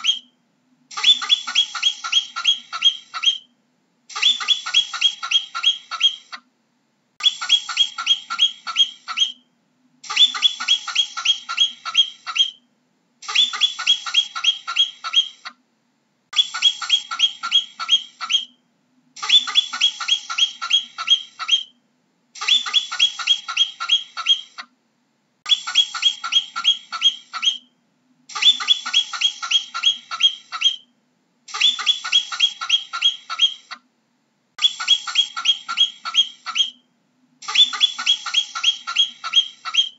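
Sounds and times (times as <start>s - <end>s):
marmot calling: 0.0s - 3.5s, 4.1s - 6.4s, 7.2s - 15.6s, 16.4s - 18.6s, 19.2s - 21.8s, 22.4s - 24.7s, 25.5s - 27.7s, 28.3s - 30.9s, 31.5s - 33.8s, 34.6s - 39.9s.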